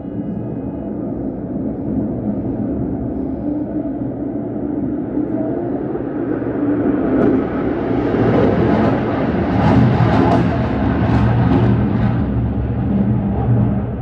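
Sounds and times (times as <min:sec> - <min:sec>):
jet engine roaring overhead: 0:00.0 - 0:14.0.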